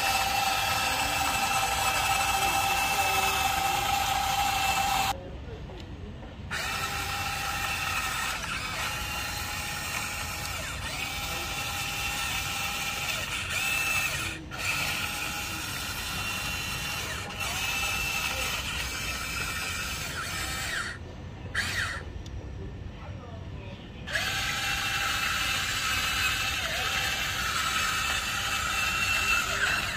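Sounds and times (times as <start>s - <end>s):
toy excavator motors whining: 0.0s - 5.2s, 6.5s - 22.3s, 24.0s - 29.9s.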